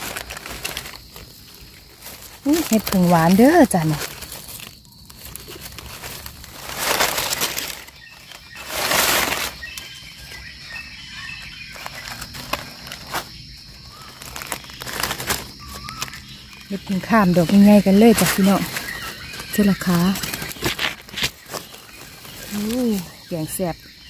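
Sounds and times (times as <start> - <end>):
dry leaves crackling and rustling: 0.0 - 24.0.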